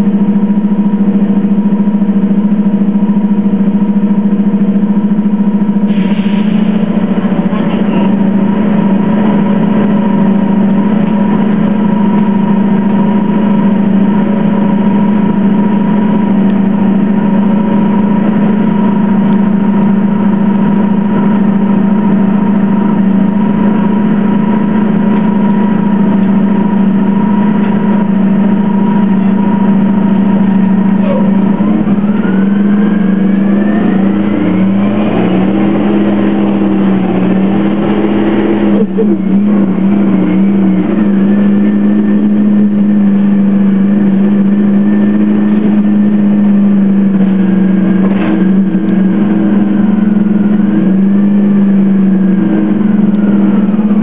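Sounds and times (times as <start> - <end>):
bus engine humming: 0.0 - 54.0
rising engine whine: 0.0 - 54.0.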